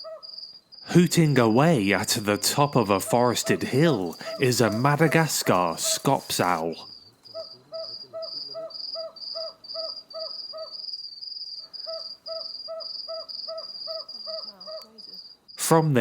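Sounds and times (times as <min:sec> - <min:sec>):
owl hooting: 0:00.0 - 0:01.0, 0:01.7 - 0:10.9, 0:11.6 - 0:15.3
crickets trilling: 0:00.0 - 0:16.0.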